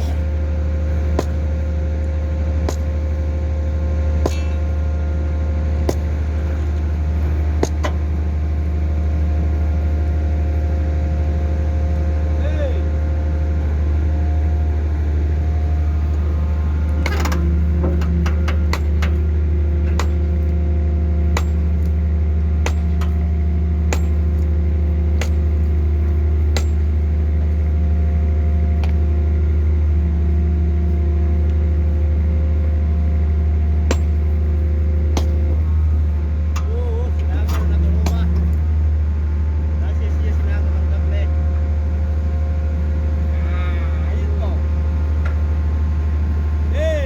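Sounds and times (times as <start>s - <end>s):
hydraulic power unit droning: 0.0s - 47.0s.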